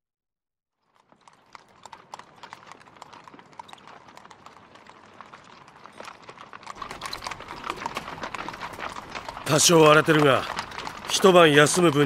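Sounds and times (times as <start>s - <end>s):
horses hooves clip-clopping: 0.8s - 12.0s.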